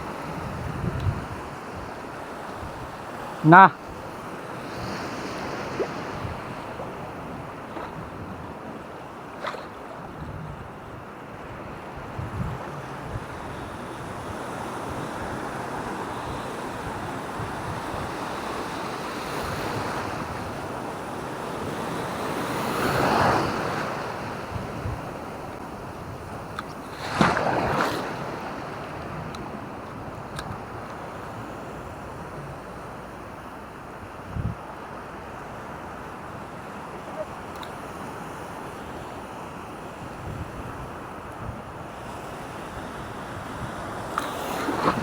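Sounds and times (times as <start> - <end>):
wind buffeting microphone: 0.0 - 32.8, 34.1 - 34.7, 39.9 - 45.0
ocean waves breaking on beach: 0.0 - 45.0.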